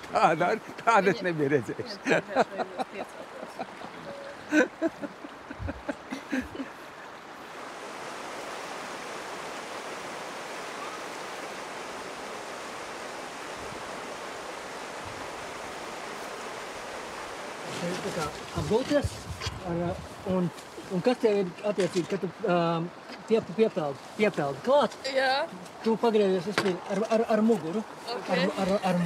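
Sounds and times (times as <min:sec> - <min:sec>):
rushing river water: 0:00.0 - 0:29.0.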